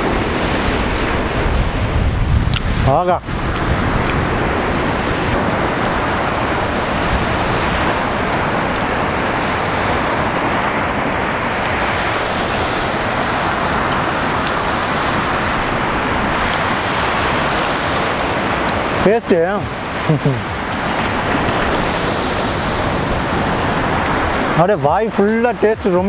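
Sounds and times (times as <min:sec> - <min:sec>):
ocean surf breaking: 0:00.0 - 0:26.0
wind on microphone: 0:00.0 - 0:26.0.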